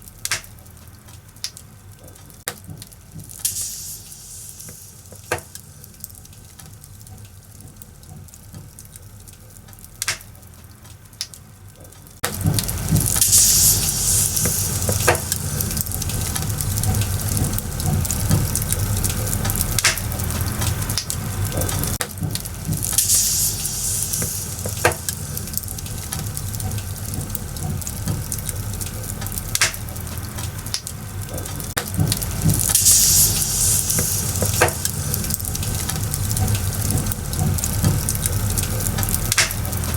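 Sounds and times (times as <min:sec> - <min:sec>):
bonfire crackling and popping: 0:00.0 - 0:39.9
fire hissing: 0:02.0 - 0:10.2, 0:12.2 - 0:39.9.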